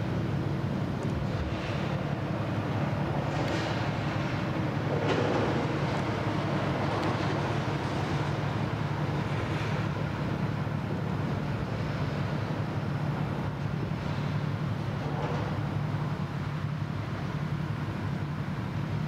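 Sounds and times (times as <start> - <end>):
diesel engines droning: 0.0 - 19.0
rushing water and wind: 0.0 - 19.0.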